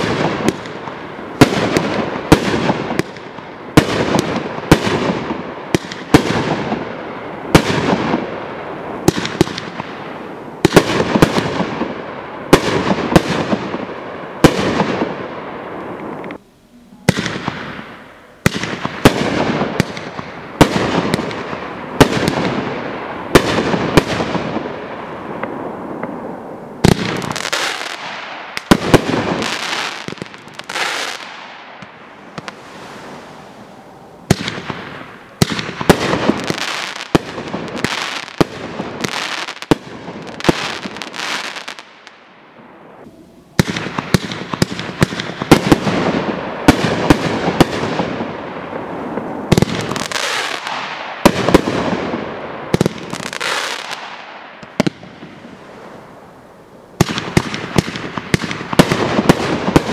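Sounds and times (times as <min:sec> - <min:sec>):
fireworks banging with hissing tails: 0:00.0 - 0:59.9.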